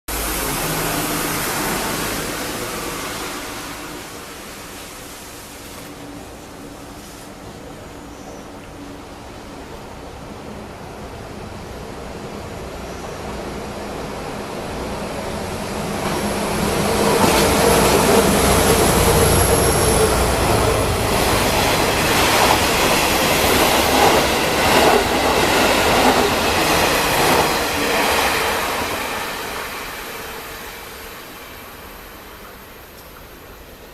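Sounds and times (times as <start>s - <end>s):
diesel train passing: 0.1s - 33.9s.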